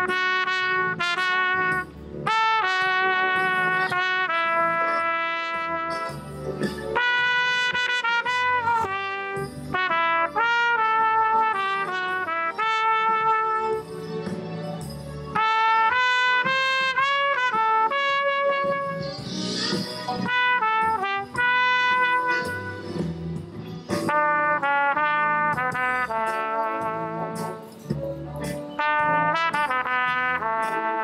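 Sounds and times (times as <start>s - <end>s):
trumpet playing a melody: 0.0s - 23.3s, 23.9s - 27.9s, 28.5s - 31.0s.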